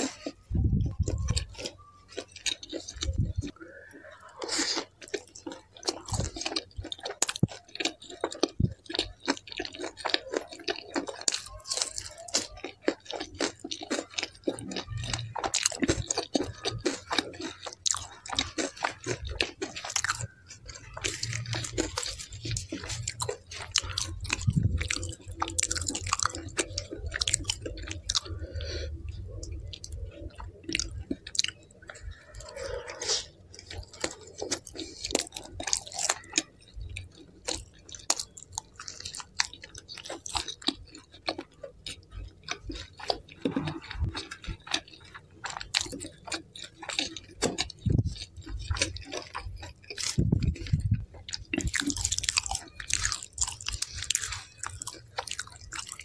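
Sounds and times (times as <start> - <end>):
close chewing with mouth clicks: 0.0 - 56.0
food crunching: 0.0 - 56.0.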